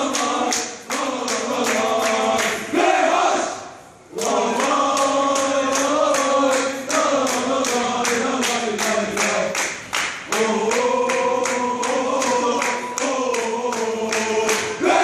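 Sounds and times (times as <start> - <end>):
people clapping: 0.0 - 2.8, 4.1 - 15.0
crowd chanting in unison: 0.0 - 15.0.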